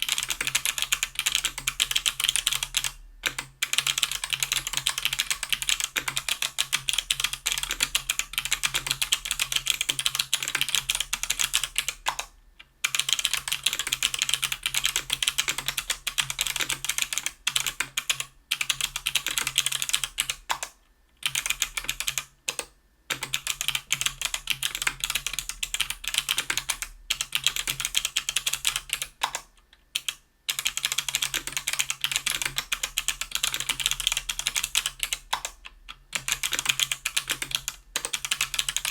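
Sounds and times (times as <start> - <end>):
fast typing on clicky keyboard: 0.0 - 38.9.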